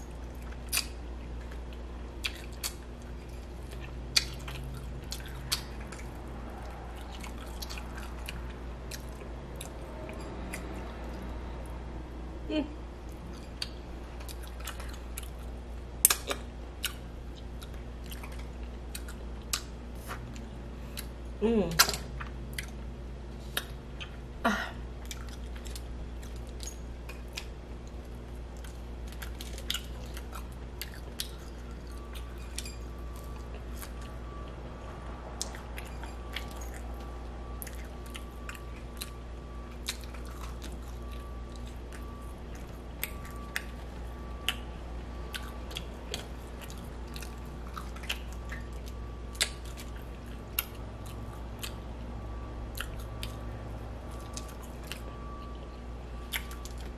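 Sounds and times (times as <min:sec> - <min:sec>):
steady low hum: 0:00.0 - 0:56.9
person chewing food: 0:00.1 - 0:11.8, 0:13.0 - 0:21.3, 0:22.0 - 0:34.6, 0:35.3 - 0:56.9.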